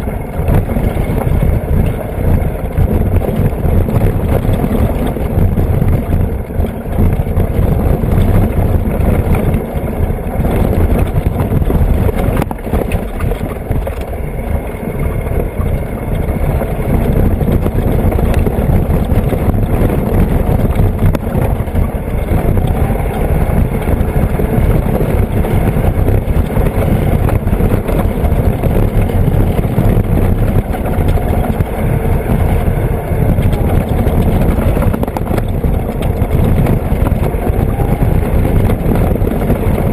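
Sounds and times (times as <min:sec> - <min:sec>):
vehicle engine and tyres on dirt: 0:00.0 - 0:39.9.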